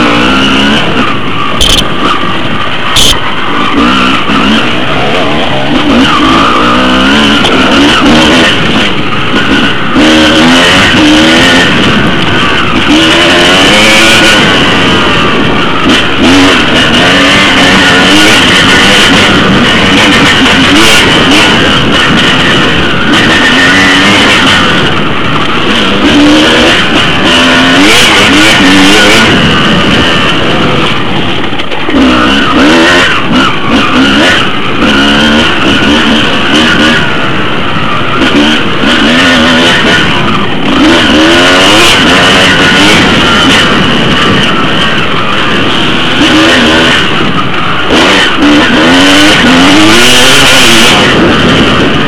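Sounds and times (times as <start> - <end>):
motorcycle engine revving: 0.0 - 52.0
wind rush: 0.0 - 52.0.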